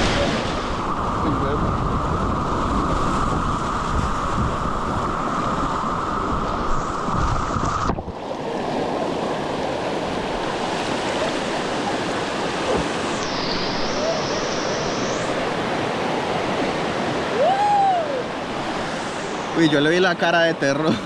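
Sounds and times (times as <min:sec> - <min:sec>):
wind buffeting microphone: 0:00.0 - 0:17.4
rushing river water: 0:00.0 - 0:21.0.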